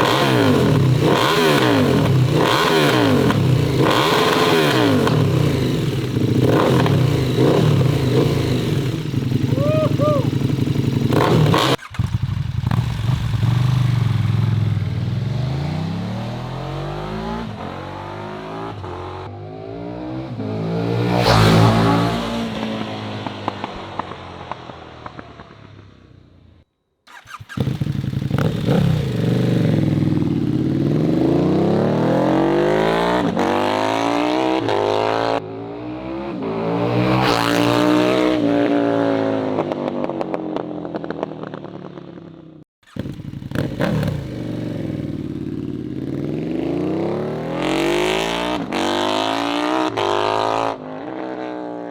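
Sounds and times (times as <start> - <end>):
motorcycle engine passing: 0.0 - 38.5, 39.2 - 51.9.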